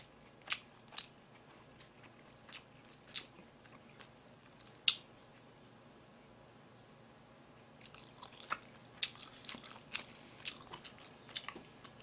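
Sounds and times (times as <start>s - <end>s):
quiet chewing: 0.0s - 5.6s, 7.8s - 12.0s.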